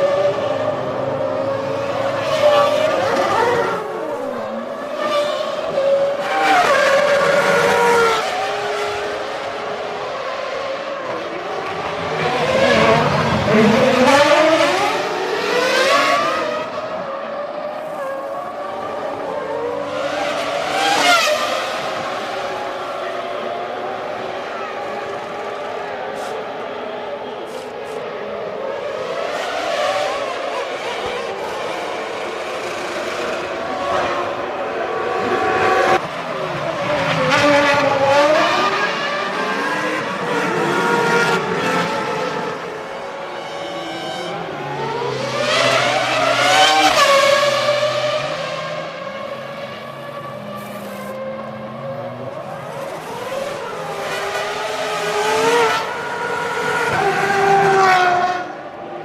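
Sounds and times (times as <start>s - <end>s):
racing car engines revving: 0.0s - 59.0s.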